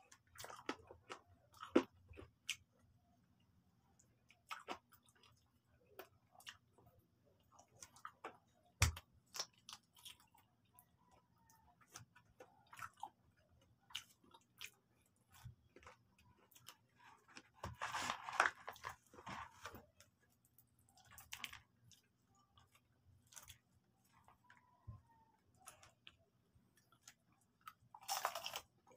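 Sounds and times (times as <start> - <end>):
chewing and crunching fried chicken: 0.0 - 28.9.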